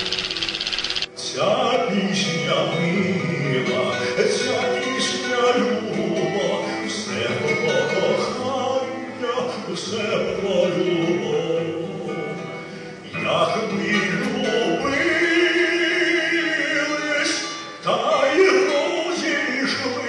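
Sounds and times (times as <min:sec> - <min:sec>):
man singing solo: 0:01.1 - 0:20.0.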